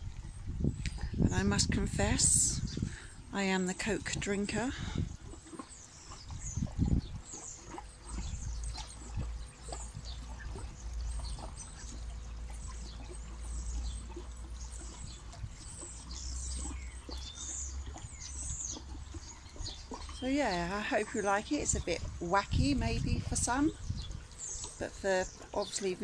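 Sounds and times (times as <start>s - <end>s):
steady low rumble: 0.0s - 25.8s
small birds chirping: 0.2s - 26.0s.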